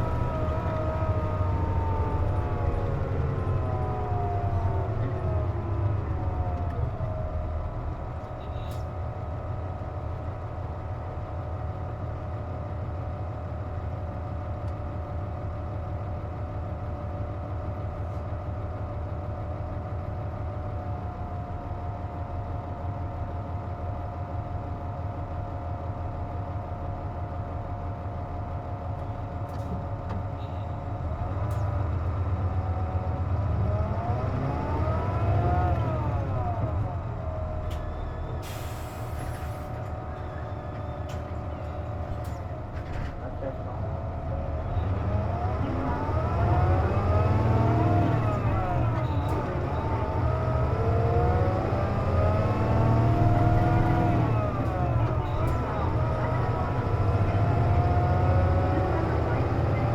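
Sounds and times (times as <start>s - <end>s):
bus whine: 0.0s - 59.9s.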